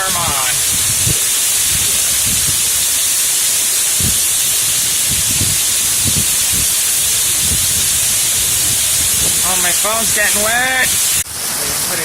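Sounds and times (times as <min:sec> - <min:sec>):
raindrops thumping on microphone: 0:00.0 - 0:11.9
heavy rain pouring: 0:00.0 - 0:12.0.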